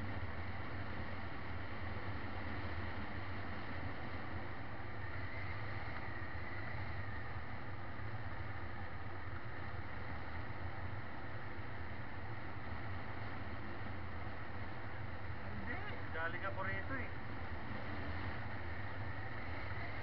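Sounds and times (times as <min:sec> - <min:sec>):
vehicle driving along road: 0:00.0 - 0:20.0.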